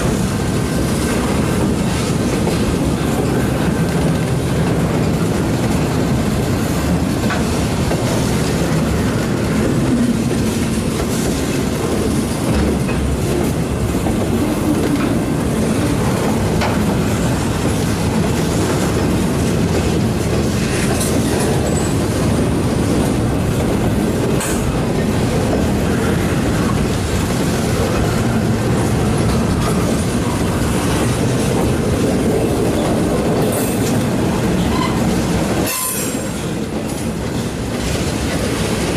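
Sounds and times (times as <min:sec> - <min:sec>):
rumble of steel wheels on rail: 0:00.0 - 0:38.9
wheels clacking over rail joints: 0:00.0 - 0:38.9.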